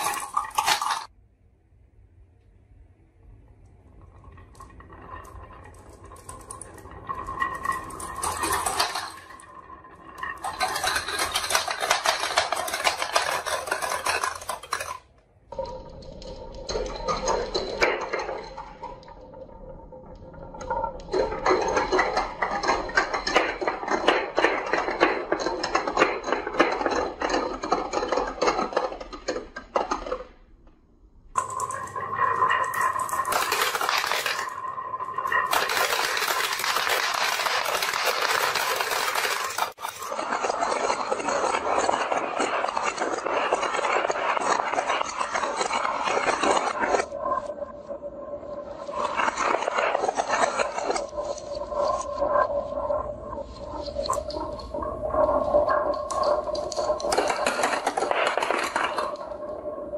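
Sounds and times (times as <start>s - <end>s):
glass marbles rattling on wooden track: 0.0s - 1.1s, 4.8s - 30.4s, 31.4s - 47.5s, 48.6s - 52.5s, 53.4s - 59.7s.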